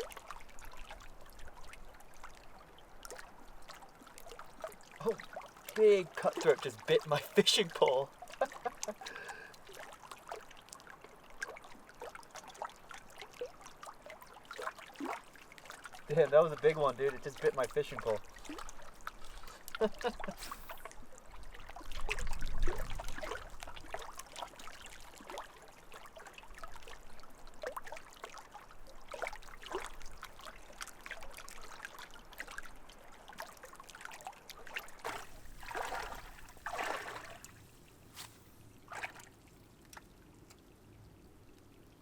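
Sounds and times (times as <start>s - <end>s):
lake water splashing: 0.0s - 40.7s.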